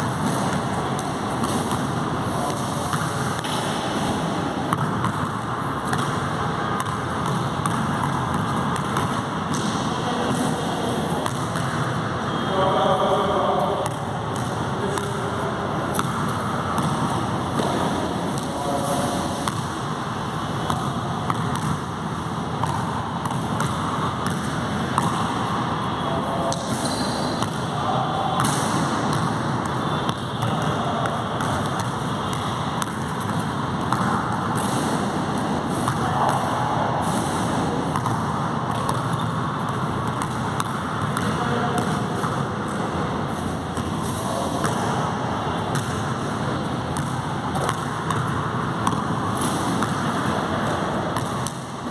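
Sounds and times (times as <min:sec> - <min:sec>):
basketball bouncing on court: 0:00.0 - 0:51.9.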